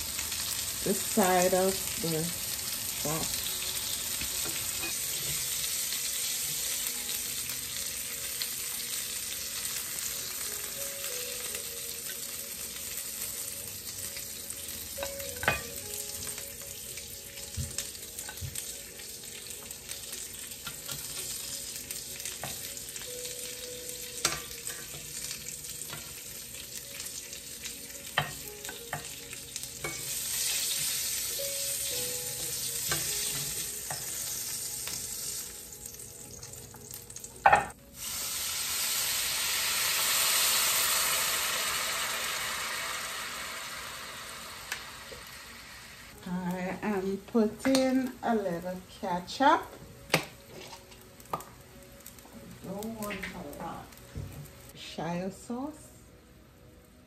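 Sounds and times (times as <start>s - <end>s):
meat sizzling in a grill pan: 0.0s - 55.6s.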